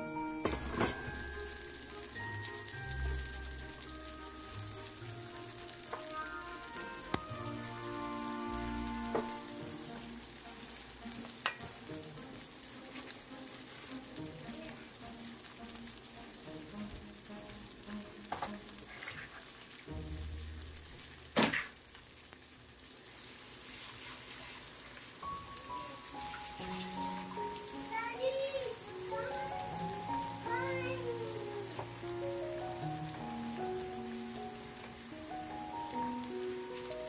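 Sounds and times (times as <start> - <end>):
meat sizzling in hot oil: 0.0 - 37.0.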